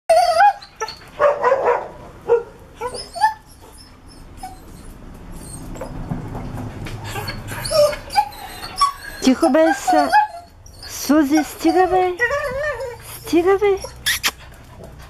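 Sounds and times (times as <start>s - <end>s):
dogs yipping and whining: 0.1s - 15.0s.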